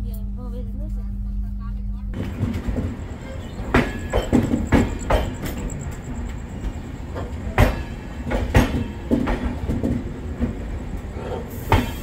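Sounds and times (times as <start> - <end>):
train rumbling: 0.0 - 12.0
wheels clacking over rail joints: 2.2 - 12.0.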